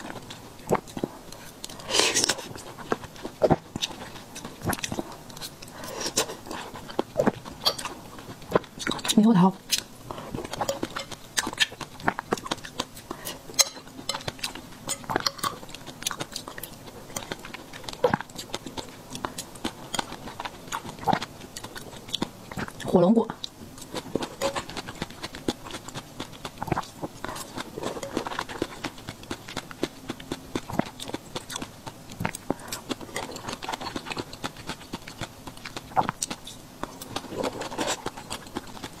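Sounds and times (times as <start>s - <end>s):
wet chewing of fruit: 0.0s - 39.0s.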